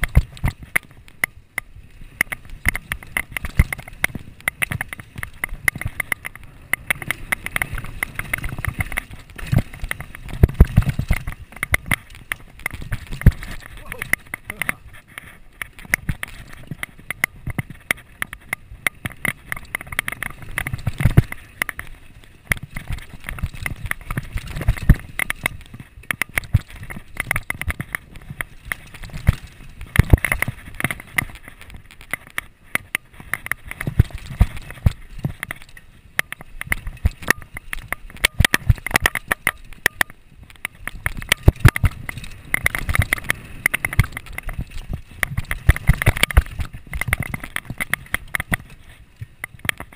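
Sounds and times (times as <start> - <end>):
bike knocks and rattles: 0.0 - 49.9.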